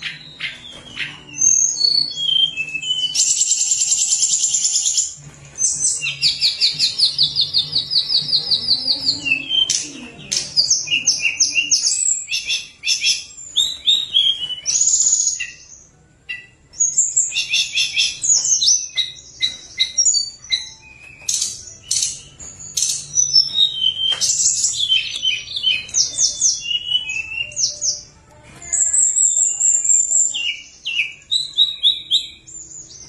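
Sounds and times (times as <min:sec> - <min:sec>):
songbird singing chirps and trills: 0:00.0 - 0:33.0.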